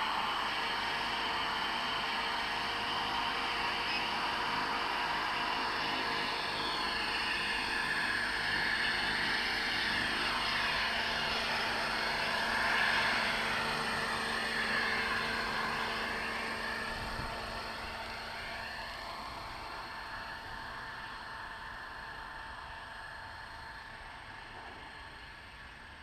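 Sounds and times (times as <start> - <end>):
helicopter rotor whirring: 0.0 - 26.0
motor and gear whine: 0.0 - 26.0.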